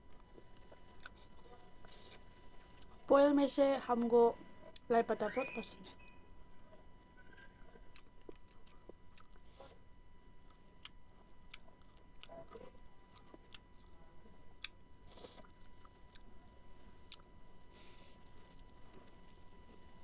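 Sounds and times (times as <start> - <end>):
person chewing food: 0.0 - 3.1, 4.6 - 4.9, 5.9 - 20.0.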